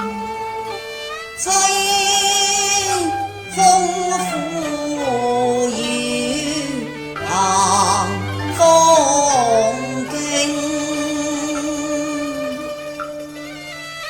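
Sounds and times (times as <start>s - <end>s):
instrumental opera-style music: 0.0s - 14.0s.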